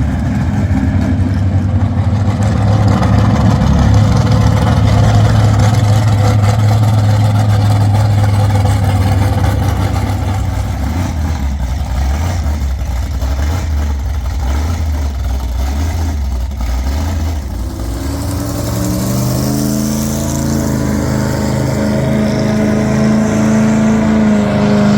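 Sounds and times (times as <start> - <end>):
van engine idling and revving: 0.0 - 24.9.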